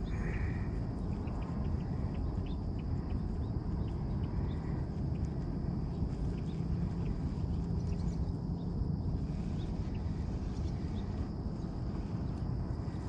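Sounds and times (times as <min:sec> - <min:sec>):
faint high hum: 0:00.0 - 0:13.0
steady low rumble: 0:00.0 - 0:13.0.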